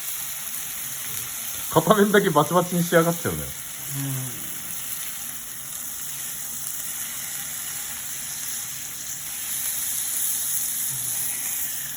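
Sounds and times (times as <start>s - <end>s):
meat sizzling on grill: 0.0s - 11.9s.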